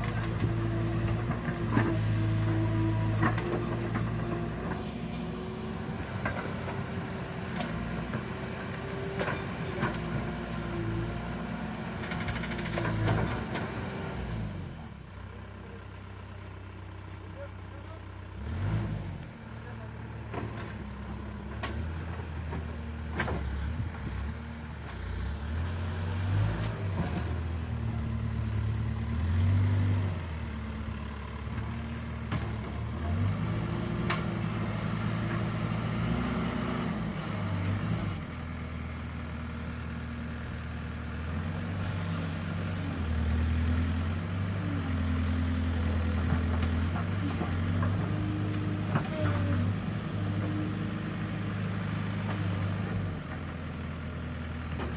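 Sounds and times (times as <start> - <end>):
diesel engine revving: 0.0 - 15.1, 18.0 - 54.9.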